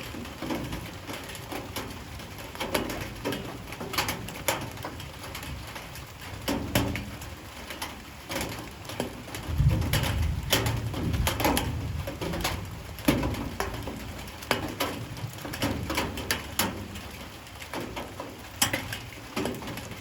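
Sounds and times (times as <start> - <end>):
raindrops tapping on hard surfaces: 0.0 - 20.0.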